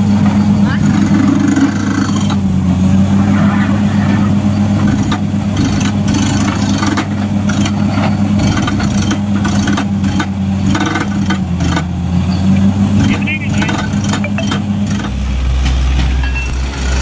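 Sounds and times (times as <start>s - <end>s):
heavy engine drone: 0.0s - 17.0s.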